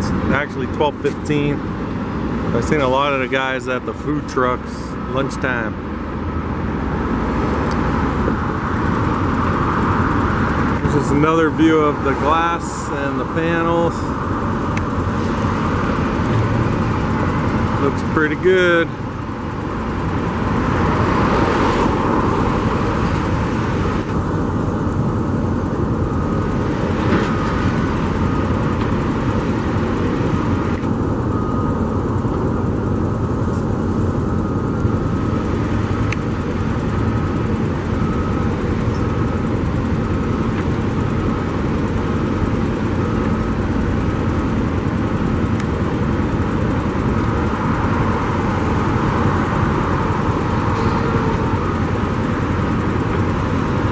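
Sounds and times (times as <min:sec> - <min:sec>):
construction trucks rumbling: 0:00.0 - 0:53.9.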